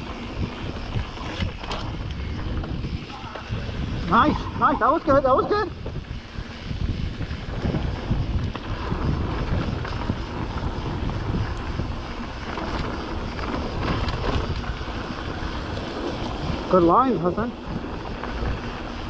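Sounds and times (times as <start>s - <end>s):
bike clicks and rattles: 0.0s - 19.0s
bike tyres rumbling on dirt: 0.0s - 19.0s
wind buffeting microphone: 0.0s - 19.0s.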